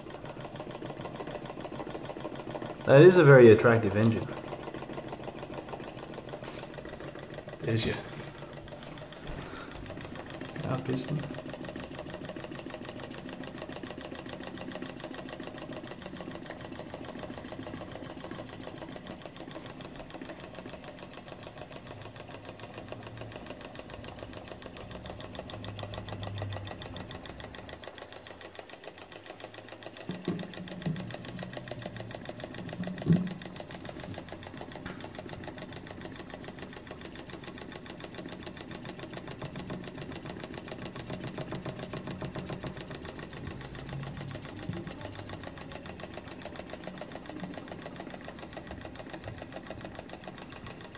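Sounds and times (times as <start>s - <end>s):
small engine ticking clatter: 0.0s - 50.9s.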